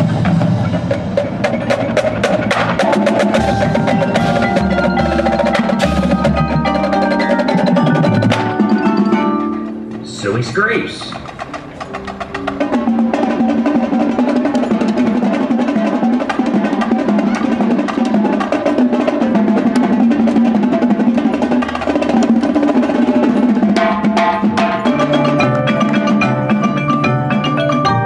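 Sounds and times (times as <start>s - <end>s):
snare and tenor drum rolls: 0.0s - 26.9s
marimbas ringing notes: 0.0s - 28.0s.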